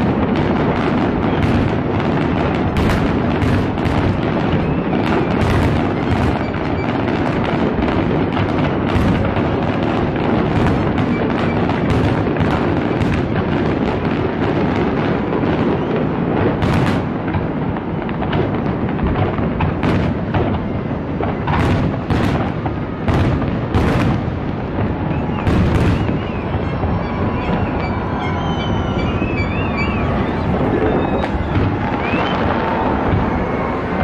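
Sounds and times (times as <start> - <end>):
fireworks rumble: 0.0 - 34.0
sharp firework bangs: 0.0 - 34.0.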